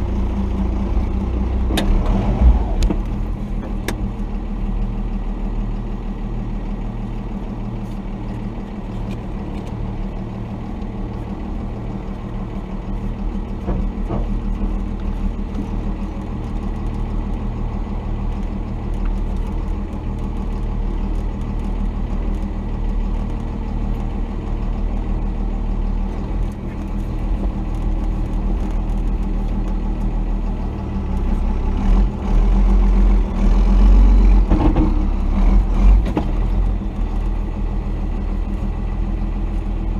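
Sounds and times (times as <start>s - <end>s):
diesel pickup engine running: 0.0s - 39.9s.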